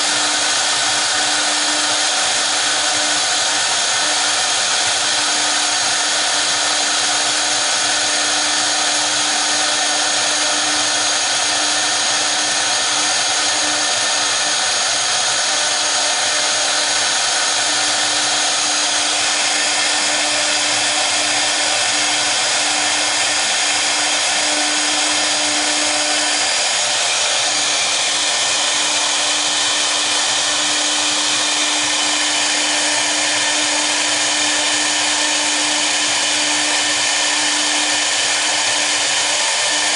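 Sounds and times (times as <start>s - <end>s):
cnc router humming and whining: 0.0s - 39.9s
router bits cutting wood: 0.0s - 39.9s.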